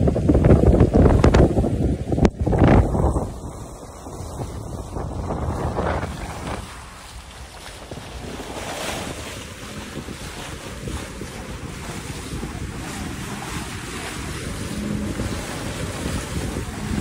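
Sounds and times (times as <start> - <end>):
choppy sea rushing: 0.0 - 17.0
wind buffeting microphone: 0.0 - 17.0.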